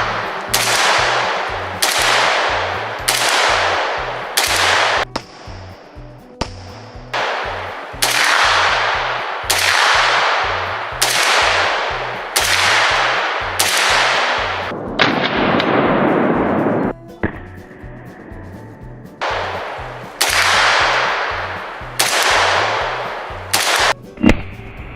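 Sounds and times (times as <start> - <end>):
rifle shots echoing: 0.0 - 5.5, 6.4 - 16.4, 19.2 - 24.4.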